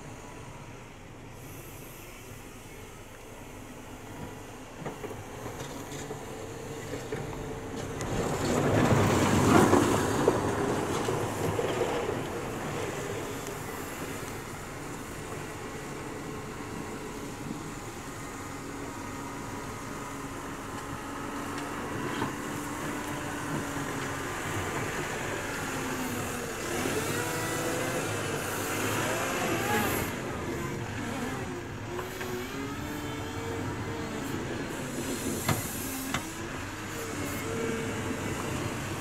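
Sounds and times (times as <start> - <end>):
wheel loader diesel engine: 0.0 - 39.0.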